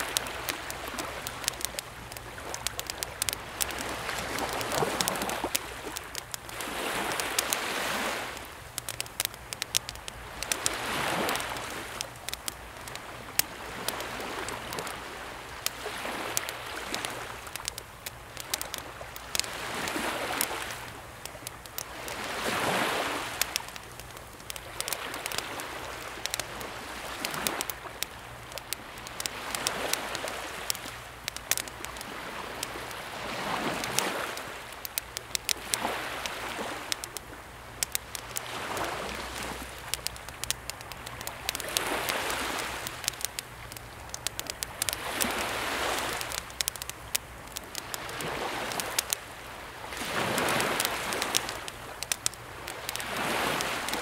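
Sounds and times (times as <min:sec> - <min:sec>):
campfire crackling and popping: 0:00.0 - 0:54.0
small waves washing in: 0:00.0 - 0:54.0.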